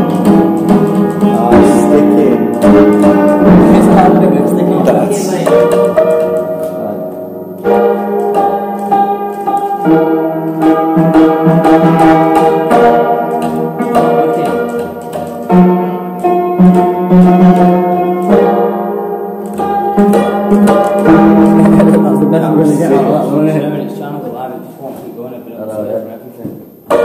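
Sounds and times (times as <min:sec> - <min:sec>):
piano chords: 0:00.0 - 0:27.0.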